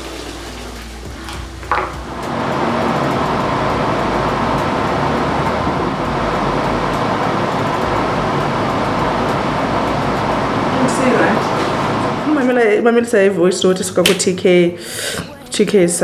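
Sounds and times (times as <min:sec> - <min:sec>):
extractor fan rushing: 0:00.0 - 0:14.2.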